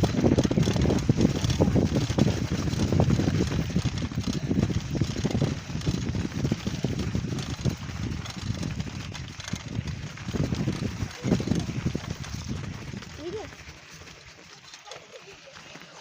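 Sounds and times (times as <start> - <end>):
wind buffeting microphone: 0.0 - 14.4
wheels crunching over rough ground: 0.0 - 16.0.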